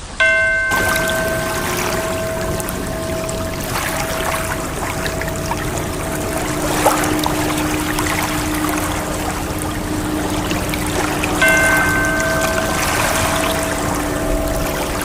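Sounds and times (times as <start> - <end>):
ocean water washing: 0.0 - 15.0
faint steady tones: 0.1 - 15.0.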